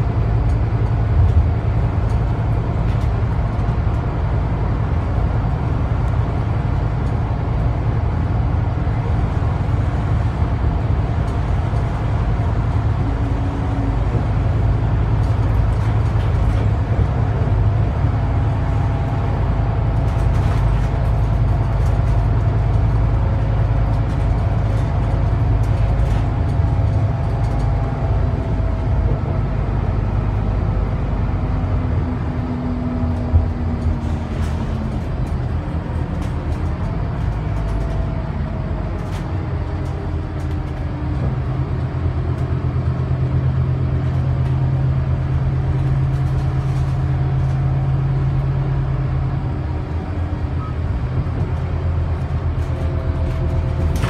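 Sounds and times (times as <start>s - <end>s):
bus diesel engine running: 0.0s - 54.0s
tyre and road noise: 0.0s - 54.0s.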